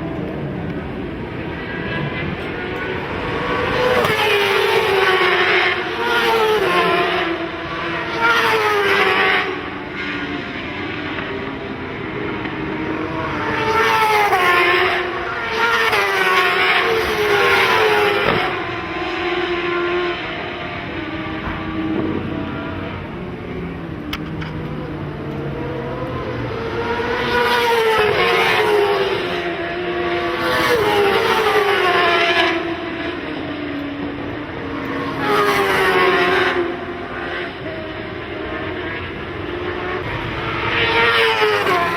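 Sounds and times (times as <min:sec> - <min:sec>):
racing motorcycles passing: 0:00.0 - 0:41.9.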